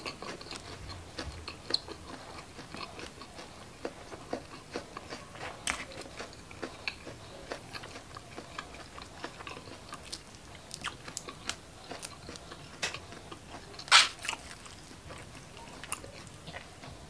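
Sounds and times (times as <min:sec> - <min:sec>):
crunchy chewing of fried shrimp: 0:00.0 - 0:17.0.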